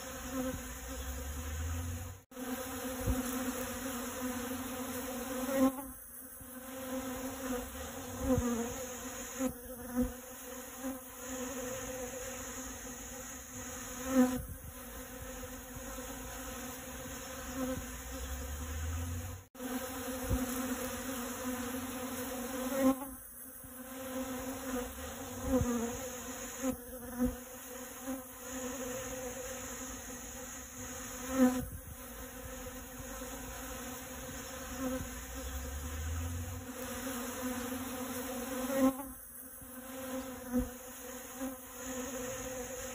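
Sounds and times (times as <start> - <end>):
bees buzzing: 0.0 - 42.9.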